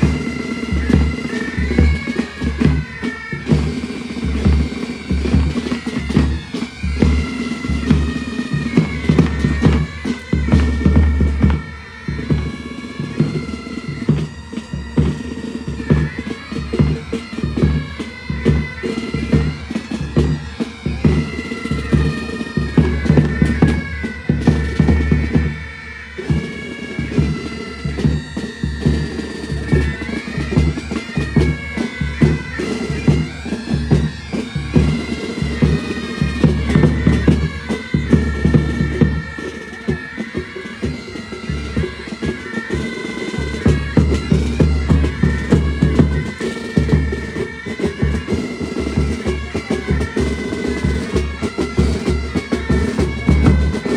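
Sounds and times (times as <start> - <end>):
bagpipes melody with drone: 0.0 - 53.9
drums beating: 0.0 - 53.9.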